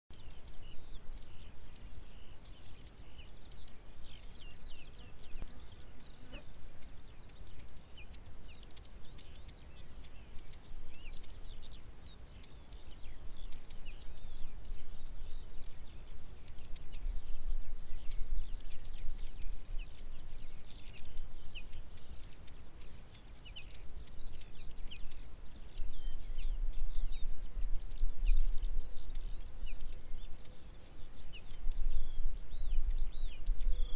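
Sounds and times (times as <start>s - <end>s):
bird chirps: 0.1s - 33.9s
wind rumbling on microphone: 0.1s - 33.9s.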